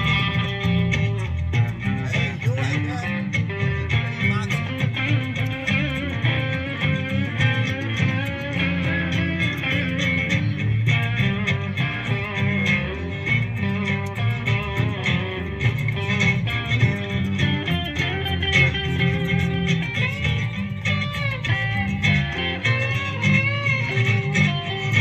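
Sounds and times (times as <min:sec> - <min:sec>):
live band playing blues rock: 0:00.0 - 0:25.0.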